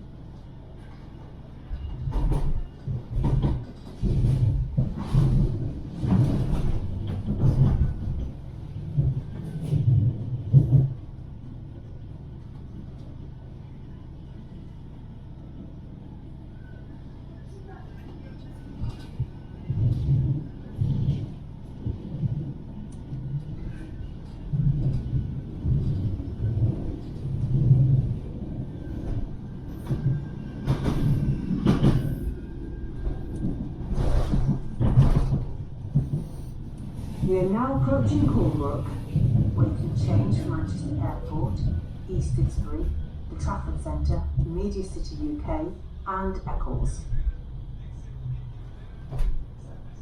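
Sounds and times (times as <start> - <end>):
tram rumbling on track: 0.0 - 50.0.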